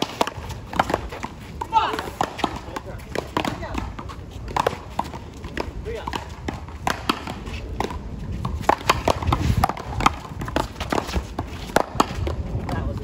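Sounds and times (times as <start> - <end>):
ball smacking concrete wall: 0.0 - 12.8
paddles striking ball: 0.0 - 12.8.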